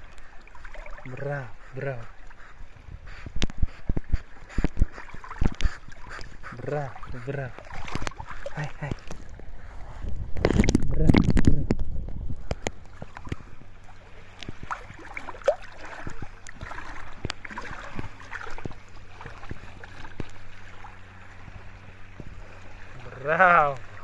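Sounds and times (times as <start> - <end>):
sea water splashing: 0.0 - 24.0
water lapping: 0.0 - 24.0.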